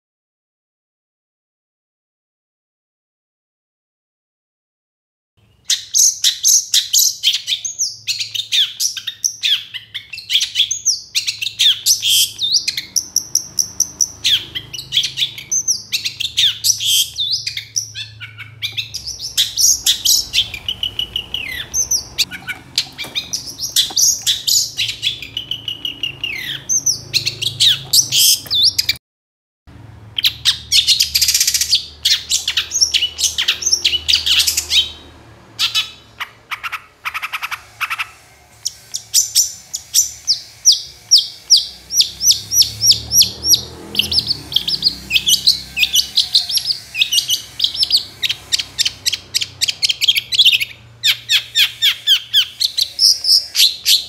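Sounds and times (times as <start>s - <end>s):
bird singing: 5.4s - 29.0s, 30.1s - 54.0s.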